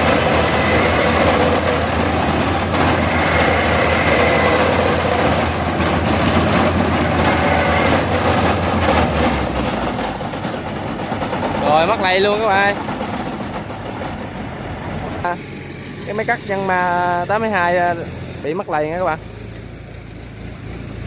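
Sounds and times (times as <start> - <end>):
threshing machinery din: 0.0 - 18.6
combine harvester engine hum: 0.0 - 21.0.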